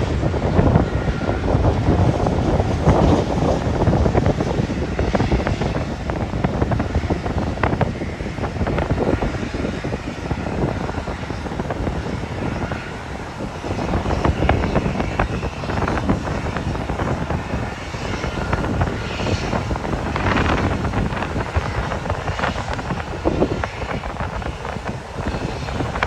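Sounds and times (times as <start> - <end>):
jet engine rushing: 0.0 - 26.0
wind buffeting microphone: 0.0 - 26.0.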